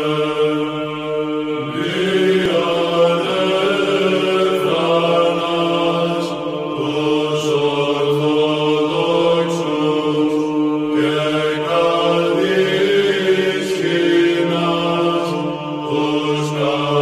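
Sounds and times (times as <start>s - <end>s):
held vocal drone: 0.0s - 17.0s
voices chanting a slow melody: 0.0s - 17.0s.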